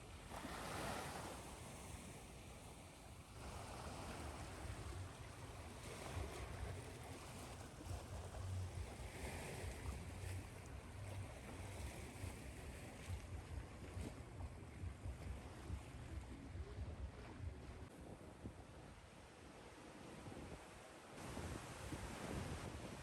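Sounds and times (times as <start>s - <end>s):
ocean waves washing in: 0.0s - 23.0s.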